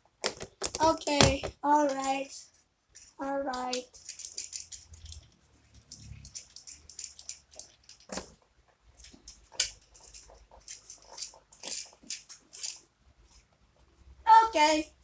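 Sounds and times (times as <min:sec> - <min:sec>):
plastic toy parts clicking: 0:00.0 - 0:08.4, 0:09.0 - 0:12.8.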